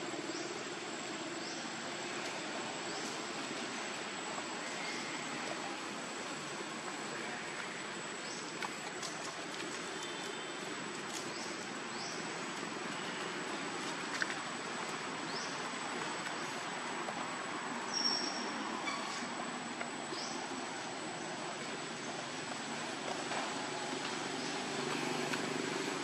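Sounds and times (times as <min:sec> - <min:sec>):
rushing outdoor background noise: 0:00.0 - 0:26.0.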